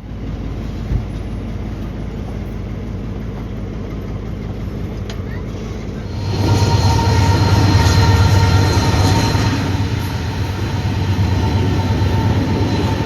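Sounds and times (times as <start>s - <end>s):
railcars rumbling: 0.0s - 13.0s
train engine hum: 0.0s - 13.0s.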